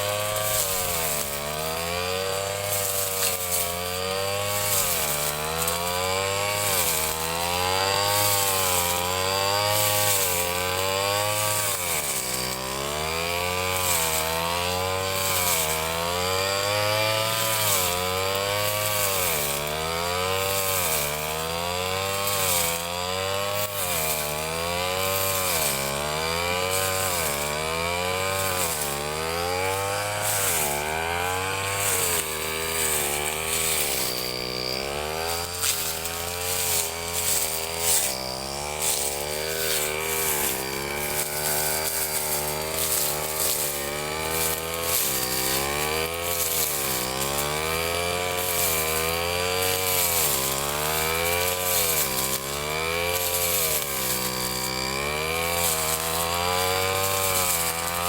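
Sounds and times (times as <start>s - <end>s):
grass cutter engine revving: 0.0s - 58.0s.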